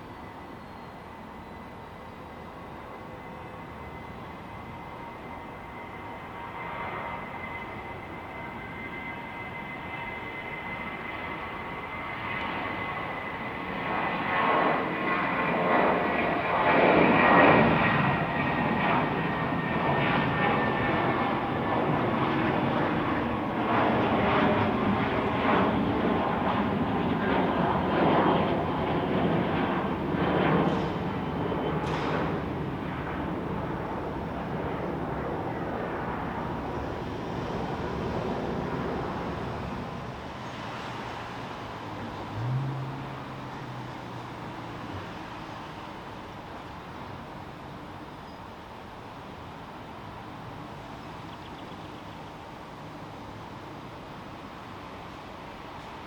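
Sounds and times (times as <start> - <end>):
airliner engines passing: 0.0 - 56.0
high engine whine: 0.0 - 56.0.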